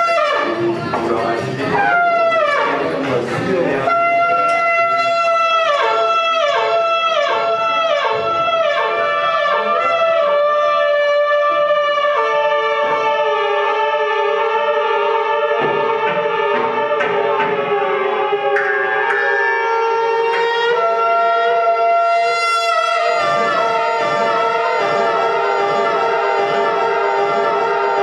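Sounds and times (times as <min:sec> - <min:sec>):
reedy drone sliding in pitch: 0:00.5 - 0:28.0.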